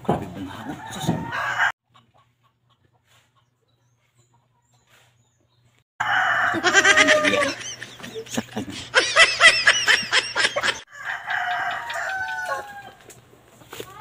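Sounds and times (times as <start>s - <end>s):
chicken clucking loudly: 0.3s - 4.7s, 6.0s - 14.0s.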